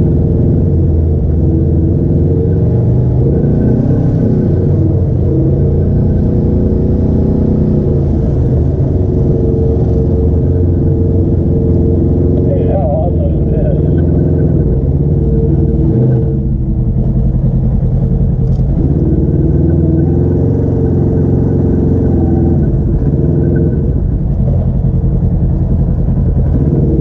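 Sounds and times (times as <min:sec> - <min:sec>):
off-road vehicle engine running: 0:00.0 - 0:27.0.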